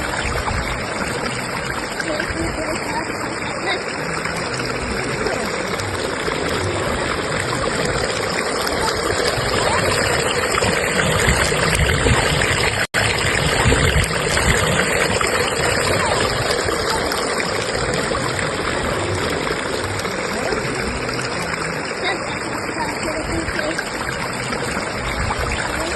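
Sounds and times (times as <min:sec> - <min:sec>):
stream rushing: 0:00.0 - 0:25.9.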